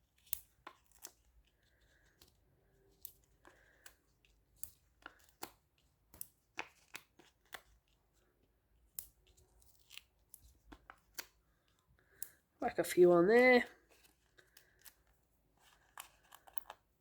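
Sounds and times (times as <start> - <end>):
adhesive pads peeled and pressed: 0.0 - 12.4, 13.8 - 17.0.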